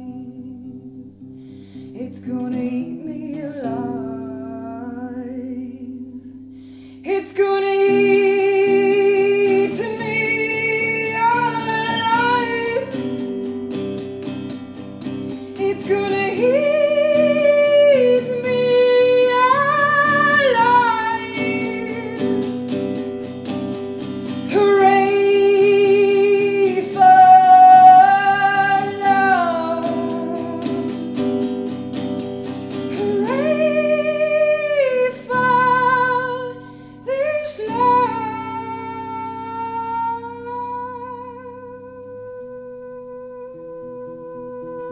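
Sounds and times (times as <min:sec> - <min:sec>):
woman singing: 0:00.0 - 0:01.2, 0:01.8 - 0:06.4, 0:07.0 - 0:44.9
electric guitar chords: 0:00.0 - 0:44.9.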